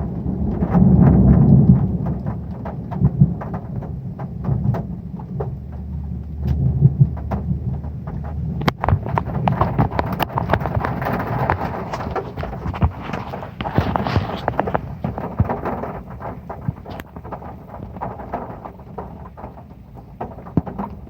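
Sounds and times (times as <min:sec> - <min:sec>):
steady low rumble: 0:00.0 - 0:20.9
heavy rain on a metal roof: 0:00.0 - 0:21.0.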